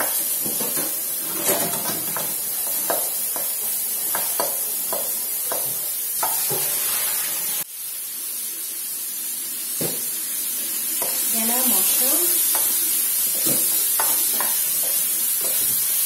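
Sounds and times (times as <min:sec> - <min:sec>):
garlic sizzling in a wok: 0:00.0 - 0:16.0.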